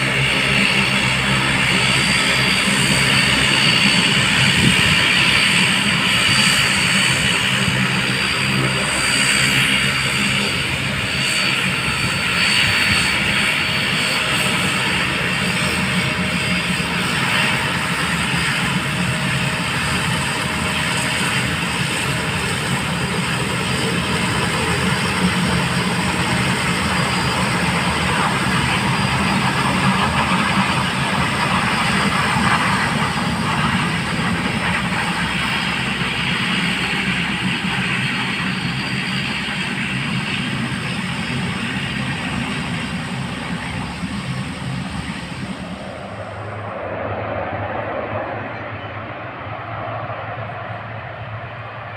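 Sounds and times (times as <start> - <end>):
aircraft engines running: 0.0 - 51.9.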